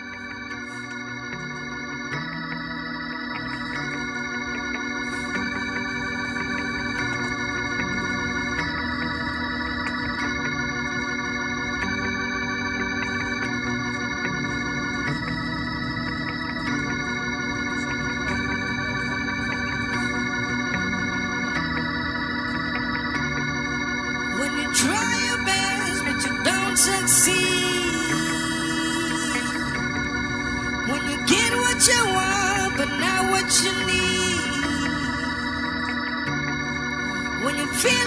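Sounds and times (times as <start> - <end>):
slow organ chords: 0.0 - 38.0.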